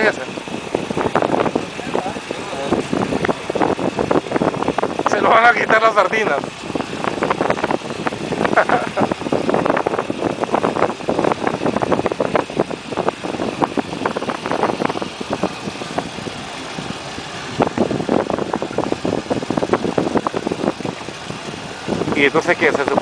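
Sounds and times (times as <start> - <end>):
outboard motor running slowly: 0.0 - 23.0
water splashing against hull: 0.0 - 23.0.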